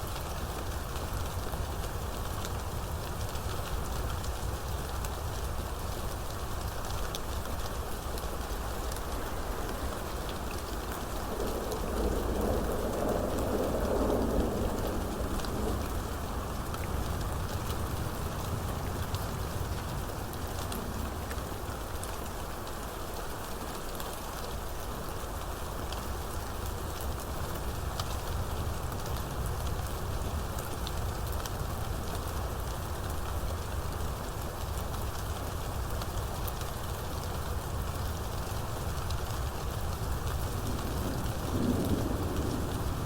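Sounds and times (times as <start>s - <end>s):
heavy rain falling: 0.1s - 43.0s.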